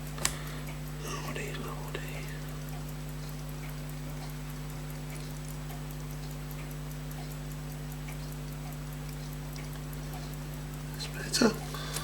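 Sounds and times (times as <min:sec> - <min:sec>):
low electrical hum: 0:00.0 - 0:12.0
clock ticking fast: 0:00.2 - 0:12.0.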